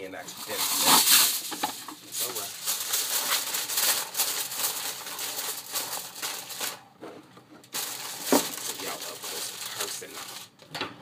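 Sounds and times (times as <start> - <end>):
aluminium foil crinkling: 0.3 - 6.8, 7.7 - 10.5.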